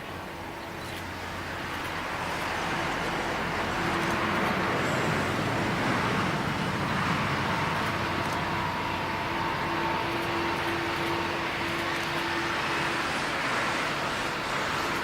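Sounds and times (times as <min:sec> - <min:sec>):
faint steady whine: 0:00.0 - 0:15.0
jet engines roaring: 0:00.0 - 0:15.0.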